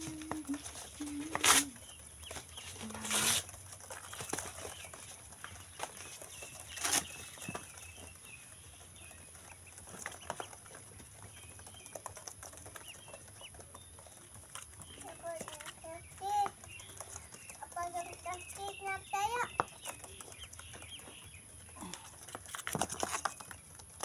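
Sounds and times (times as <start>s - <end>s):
ducklings peeping: 0.0s - 24.0s
scratchy rustles: 0.0s - 24.0s.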